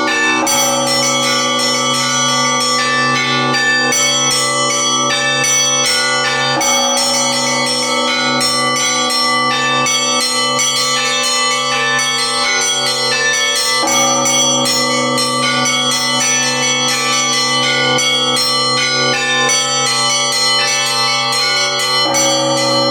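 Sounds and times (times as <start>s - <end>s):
church bells pealing: 0.0s - 22.9s.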